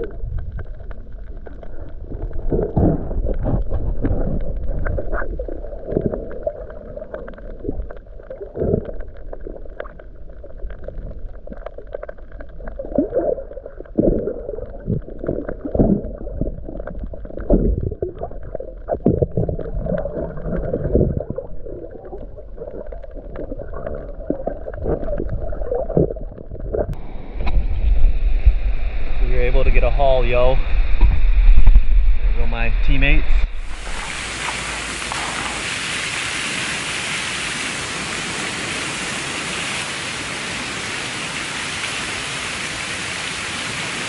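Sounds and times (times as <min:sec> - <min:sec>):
underwater gurgling and sloshing: 0:00.0 - 0:36.6.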